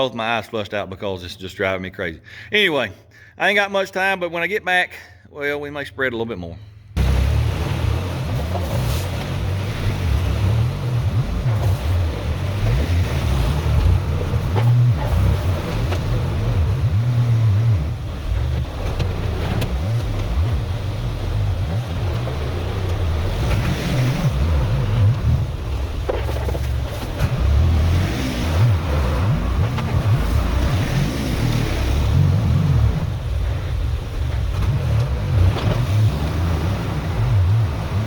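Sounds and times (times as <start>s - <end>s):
tractor engine rumbling: 5.3s - 38.0s.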